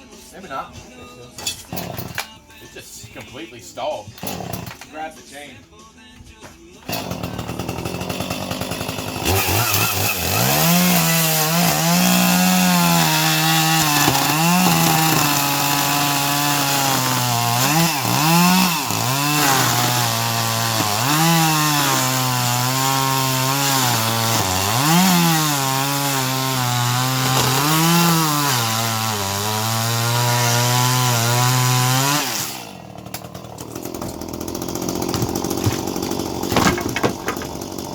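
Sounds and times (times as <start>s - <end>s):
chainsaw cutting wood: 1.4s - 2.4s, 4.1s - 5.1s, 6.7s - 37.9s.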